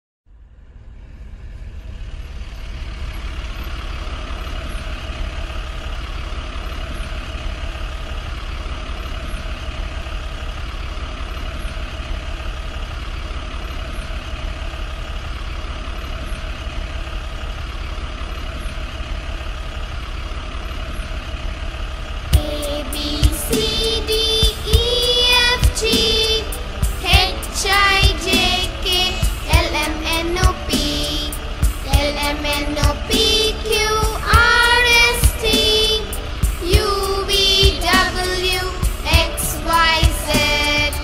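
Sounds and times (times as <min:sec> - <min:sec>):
vehicle engine running: 0:00.3 - 0:41.0.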